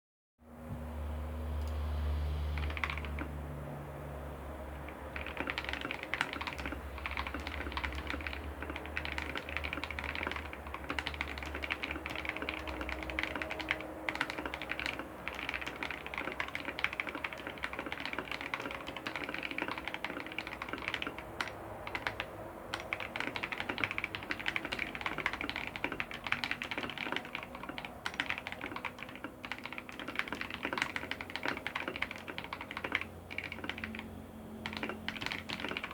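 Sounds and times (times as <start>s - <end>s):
fast typing on mechanical keyboard: 2.6s - 3.4s, 4.8s - 35.9s.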